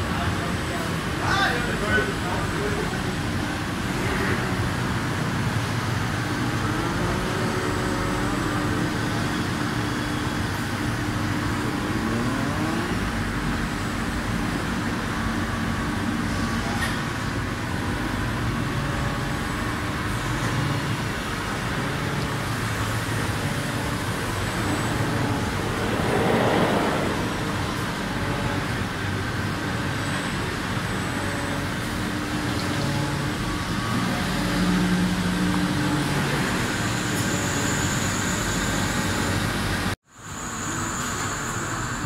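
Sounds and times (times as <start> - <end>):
industrial machinery humming: 0.0 - 42.0.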